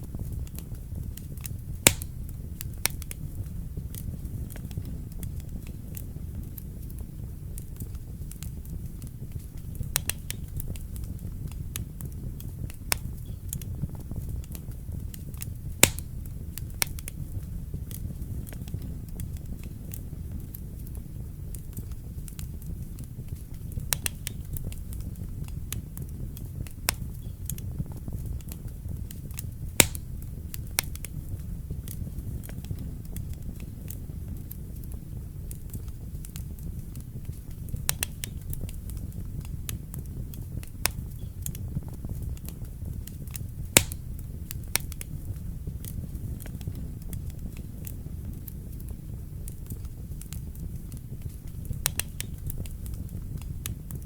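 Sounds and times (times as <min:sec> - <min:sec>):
fire flames rumbling: 0:00.0 - 0:54.0
wood fire crackling and popping: 0:00.0 - 0:54.0.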